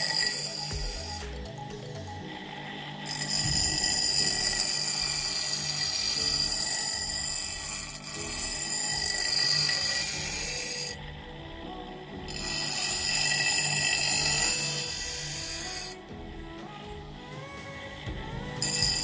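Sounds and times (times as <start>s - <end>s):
buffing wheel high-pitched whine: 0.0s - 1.4s, 2.0s - 16.0s, 18.5s - 19.0s.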